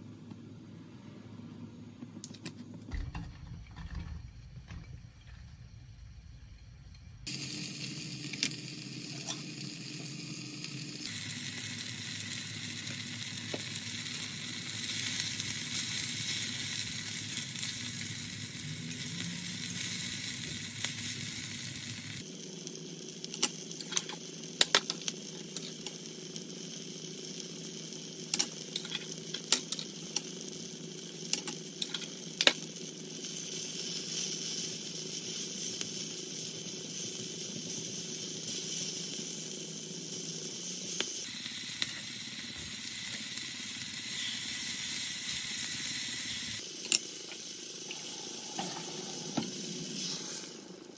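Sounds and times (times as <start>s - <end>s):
food sizzling in frying pan: 7.2s - 50.9s.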